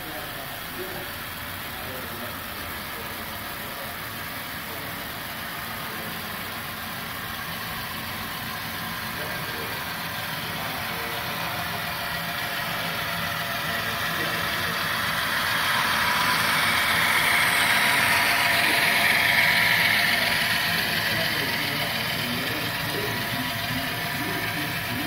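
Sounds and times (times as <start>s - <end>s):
model train wheels and motors whirring: 0.0s - 25.0s.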